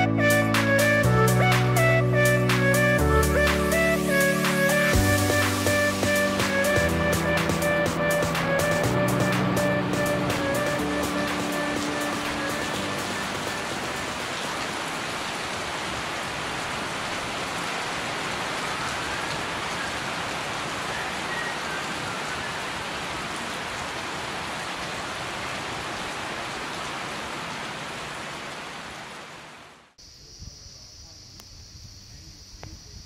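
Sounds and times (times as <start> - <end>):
heavy rain on leaves and ground: 0.0 - 30.0.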